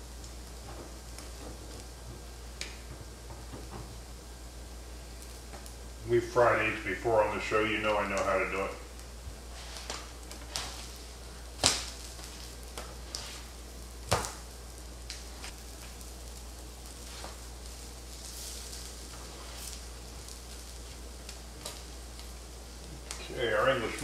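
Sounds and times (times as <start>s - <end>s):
meat sizzling: 0.0s - 24.0s.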